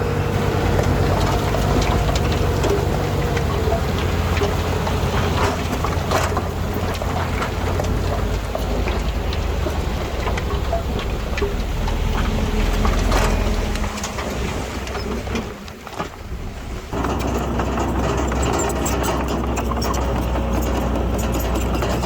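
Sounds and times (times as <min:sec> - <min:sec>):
bulldozer diesel engine: 0:00.0 - 0:22.0
machine clattering: 0:00.0 - 0:22.0.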